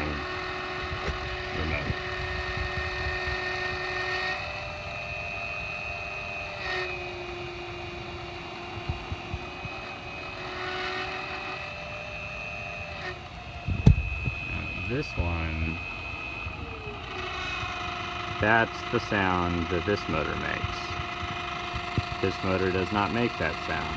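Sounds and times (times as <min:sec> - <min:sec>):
remote-controlled motor whining: 0:00.0 - 0:23.9.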